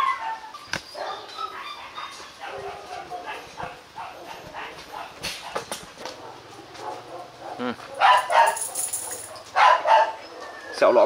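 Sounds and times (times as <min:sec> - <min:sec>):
dogs whining and yipping: 0:00.0 - 0:06.4, 0:08.0 - 0:11.0.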